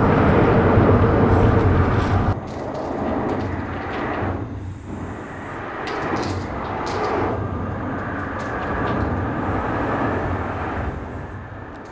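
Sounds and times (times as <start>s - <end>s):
vehicle rumble with low hum: 0.0s - 11.9s.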